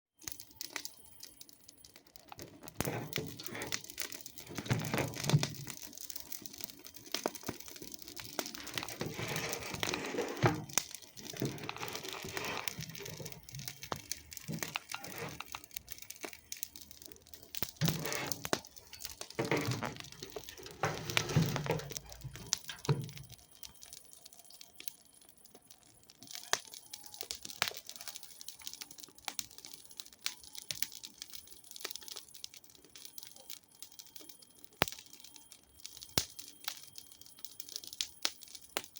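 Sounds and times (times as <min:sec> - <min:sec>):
campfire crackling and popping: 0:00.2 - 0:38.9.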